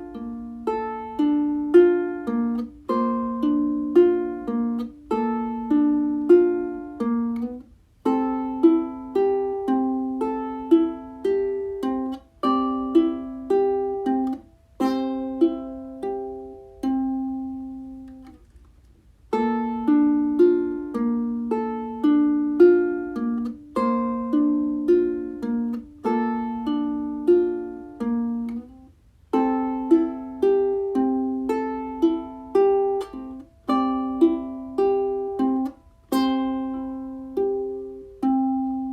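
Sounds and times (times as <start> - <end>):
ukulele melody: 0.0 - 38.9.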